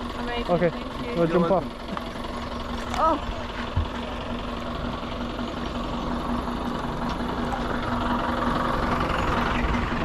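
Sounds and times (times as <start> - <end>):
motorbike engine idling: 0.0 - 10.0.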